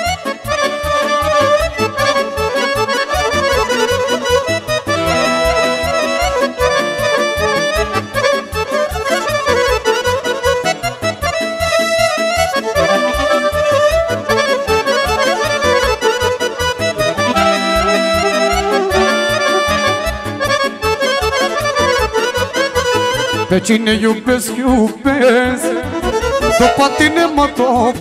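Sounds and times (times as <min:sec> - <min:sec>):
accordion playing party music: 0:00.0 - 0:28.0
keyboard backing with steady beat: 0:00.0 - 0:28.0.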